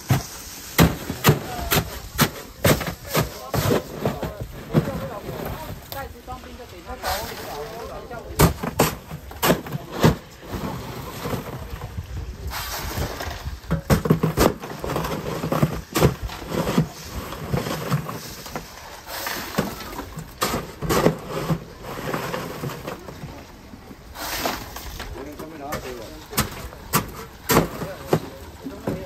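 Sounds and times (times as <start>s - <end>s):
faint voices: 1.2s - 13.5s, 16.6s - 29.0s.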